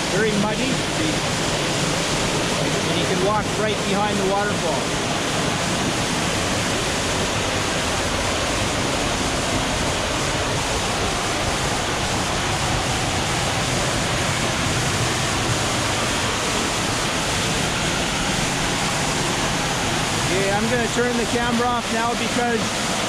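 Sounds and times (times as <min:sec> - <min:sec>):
waterfall crashing: 0:00.0 - 0:23.0.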